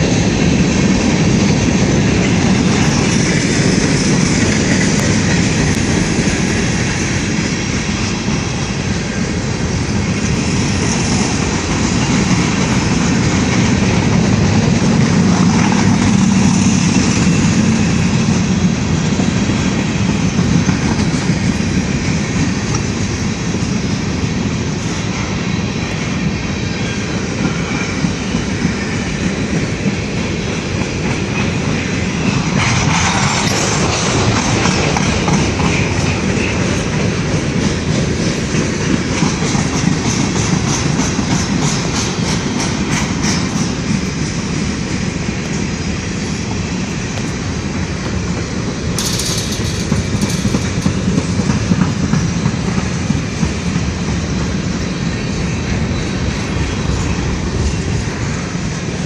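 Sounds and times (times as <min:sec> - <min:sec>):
wheels clacking over rail joints: 0:00.0 - 0:26.4, 0:27.1 - 0:54.8
freight train rumble: 0:00.0 - 0:59.0.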